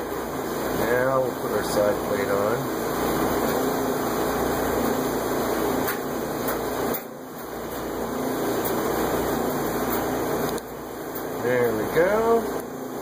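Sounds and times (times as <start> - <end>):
machine-like background hum: 0.0 - 13.0.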